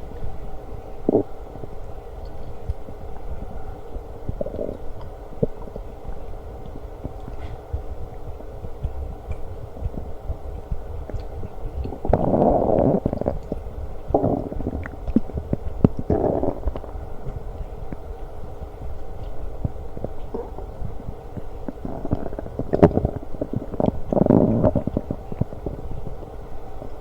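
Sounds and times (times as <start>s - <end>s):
stomach growling and gurgling: 0.0s - 27.0s.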